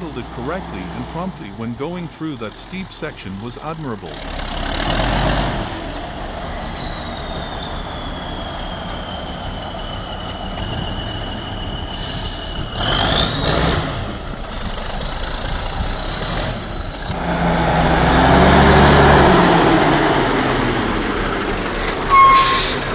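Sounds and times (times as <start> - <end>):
deep engine rumble: 0.0 - 22.9
truck engine with high whine: 0.0 - 22.9.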